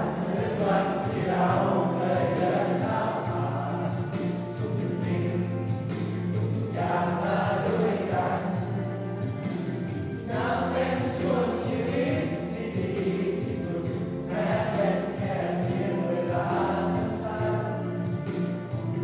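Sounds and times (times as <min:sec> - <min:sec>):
backing music: 0:00.0 - 0:19.0
voices singing a slow ballad: 0:00.0 - 0:19.0.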